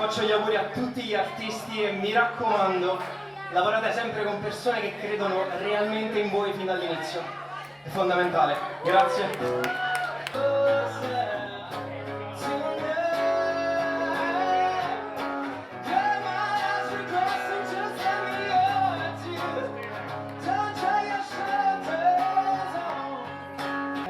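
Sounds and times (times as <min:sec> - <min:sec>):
guitar: 0:00.0 - 0:24.0
man singing: 0:00.0 - 0:24.0.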